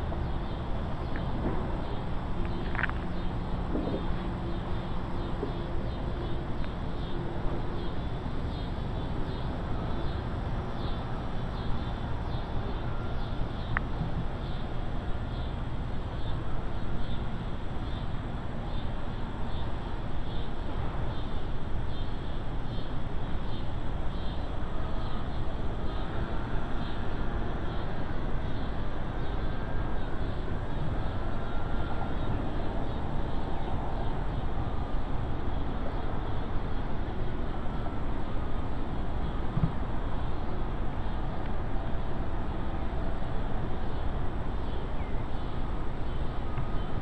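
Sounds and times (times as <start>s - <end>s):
faint high pulsing chirp: 0.0s - 47.0s
steady outdoor rumble: 0.0s - 47.0s
faint whistle-like tones: 0.1s - 47.0s.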